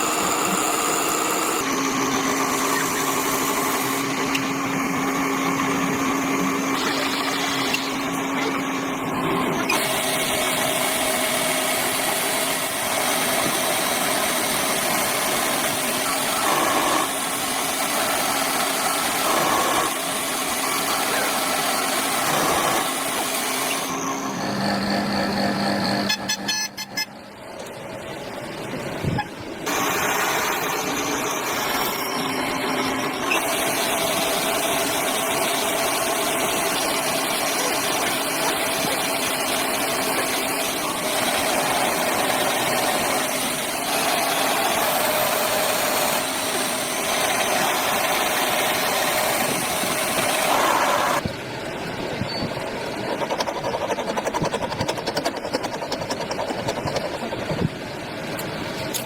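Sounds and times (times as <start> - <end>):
lathe cutting metal: 0.0 - 27.2, 29.6 - 51.2, 52.9 - 57.5.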